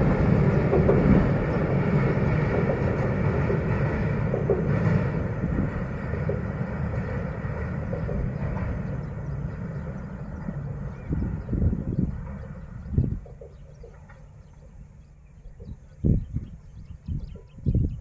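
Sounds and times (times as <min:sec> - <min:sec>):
train wheels rumbling on bridge: 0:00.0 - 0:18.0.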